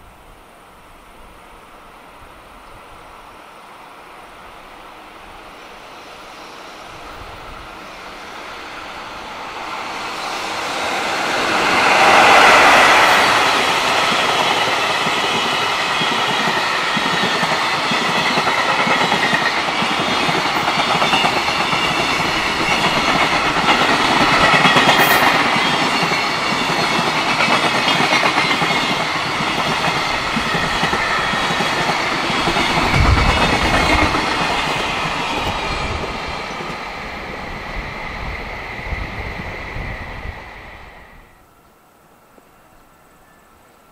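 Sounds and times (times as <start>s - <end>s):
train wheels on rails: 0.0s - 41.5s
electric locomotive passing: 0.0s - 43.9s.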